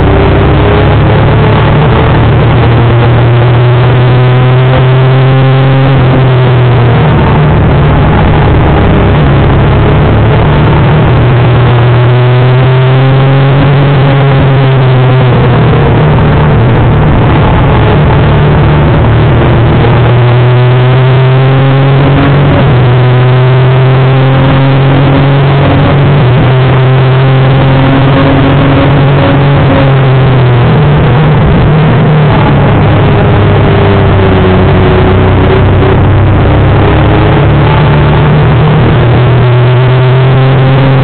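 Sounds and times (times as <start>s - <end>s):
heavy wind noise: 0.0s - 41.0s
motorcycle engine at high revs: 0.0s - 41.0s.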